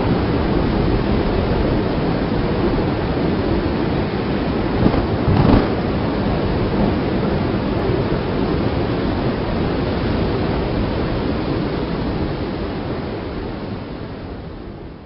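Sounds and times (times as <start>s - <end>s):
wind and rain rushing: 0.0s - 15.0s.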